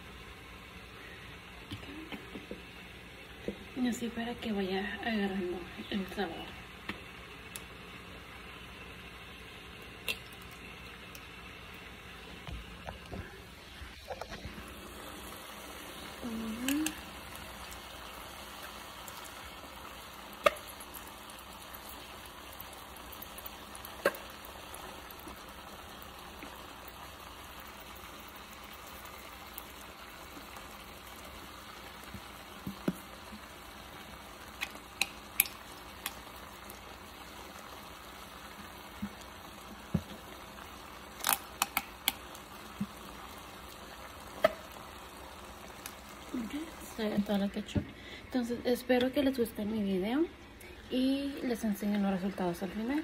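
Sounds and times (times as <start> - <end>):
chicken sizzling in a pot: 0.0 - 53.0.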